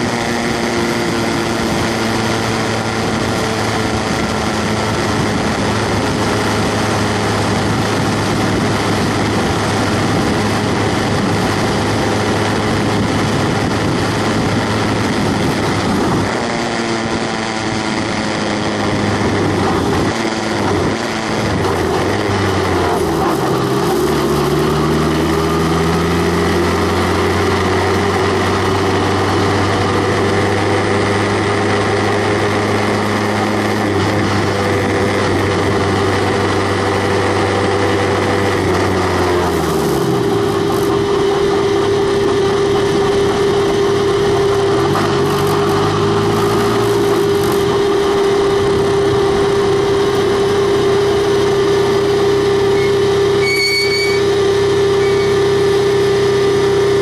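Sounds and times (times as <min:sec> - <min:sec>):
race car engine at low revs: 0:00.0 - 0:57.0.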